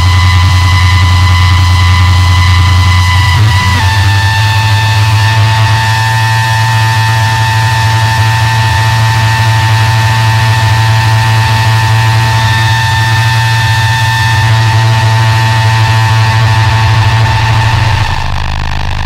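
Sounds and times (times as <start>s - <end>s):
high electronic whine and hiss: 0.0s - 19.0s
low electronic hum: 0.0s - 19.0s.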